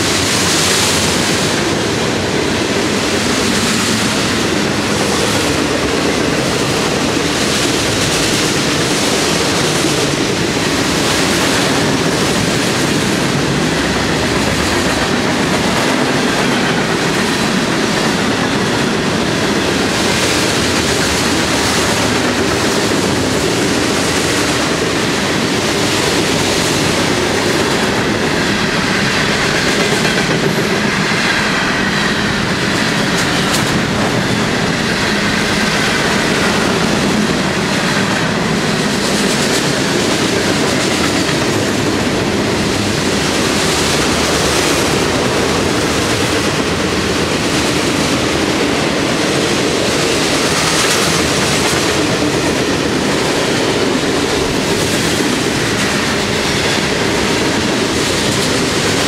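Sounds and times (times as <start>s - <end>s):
freight train rolling past: 0.0s - 59.0s
steel wheels on rail: 0.0s - 59.0s.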